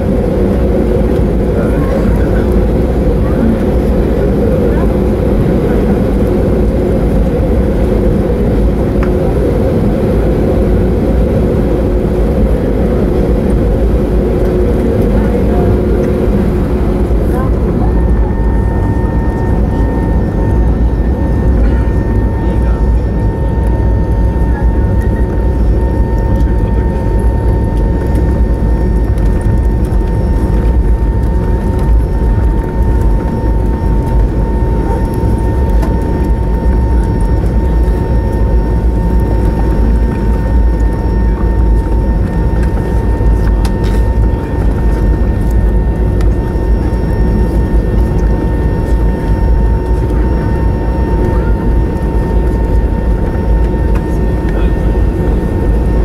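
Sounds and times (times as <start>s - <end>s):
jet engines low rumble: 0.0s - 56.0s
thin steady whine: 0.0s - 56.0s.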